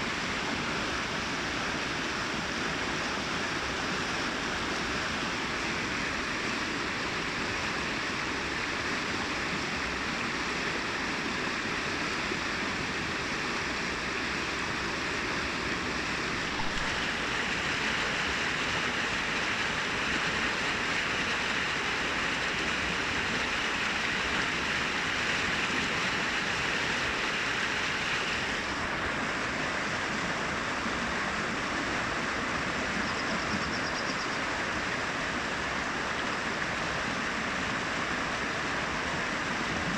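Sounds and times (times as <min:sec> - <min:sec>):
brook water rushing over rocks: 0:00.0 - 0:39.9.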